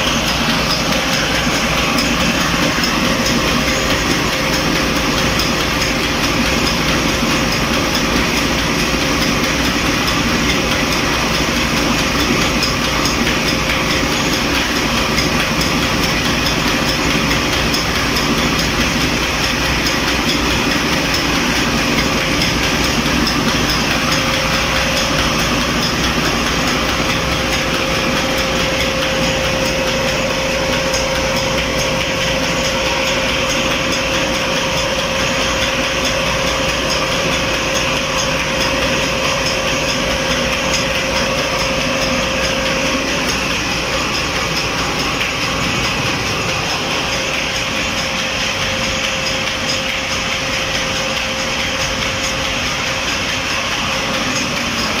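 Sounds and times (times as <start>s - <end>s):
flour mill mechanical drone: 0.0s - 55.0s
steady motor whine: 0.0s - 55.0s.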